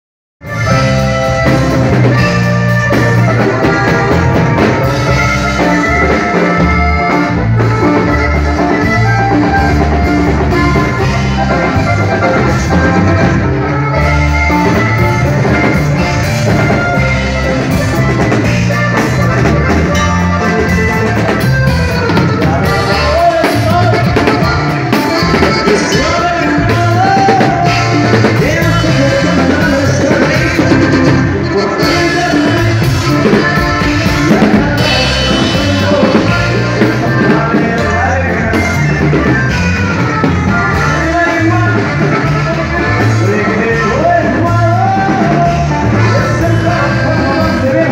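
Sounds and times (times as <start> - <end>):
band music through pa: 0.4 - 47.9.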